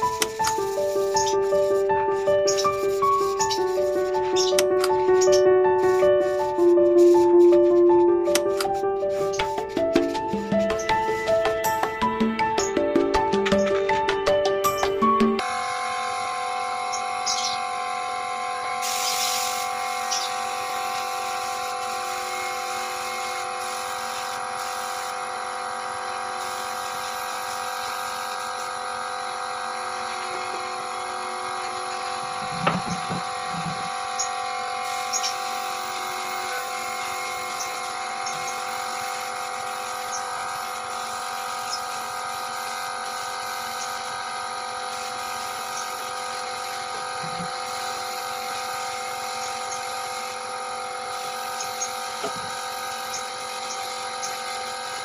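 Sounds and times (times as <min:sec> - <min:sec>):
air compressor whining: 0:00.0 - 0:55.0.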